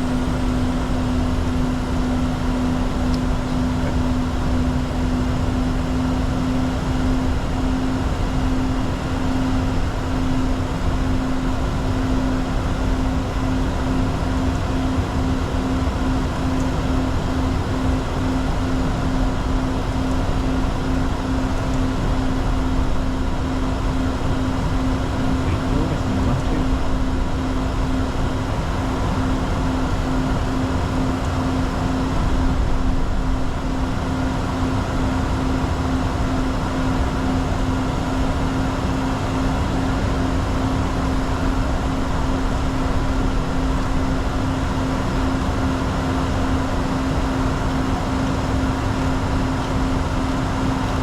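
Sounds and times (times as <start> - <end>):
airflow and jet engines: 0.0 - 51.0
steady low hum: 0.0 - 51.0.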